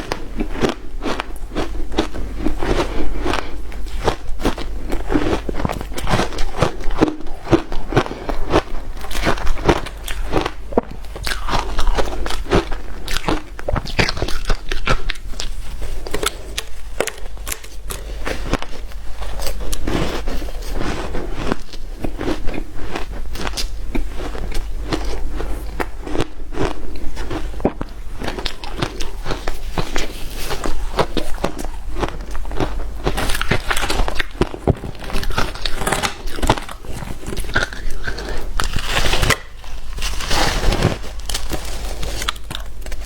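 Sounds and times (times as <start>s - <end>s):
ice crunching while chewed: 0.0s - 43.0s.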